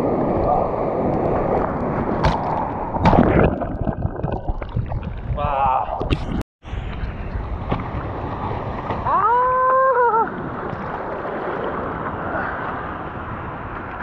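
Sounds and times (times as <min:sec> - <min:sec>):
rushing water: 0:00.0 - 0:14.0
wind noise: 0:00.0 - 0:14.0.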